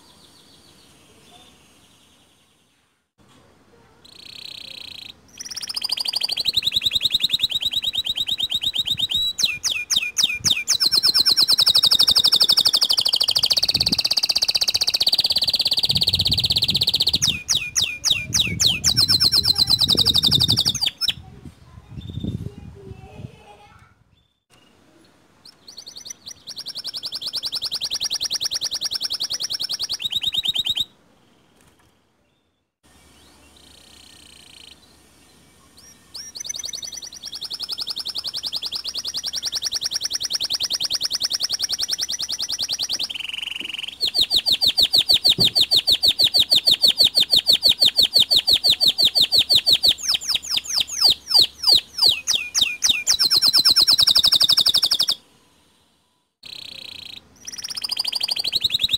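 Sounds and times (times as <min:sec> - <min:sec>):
canary singing trills: 0:04.0 - 0:22.4, 0:25.4 - 0:30.9, 0:33.0 - 0:55.6, 0:56.4 - 0:58.9.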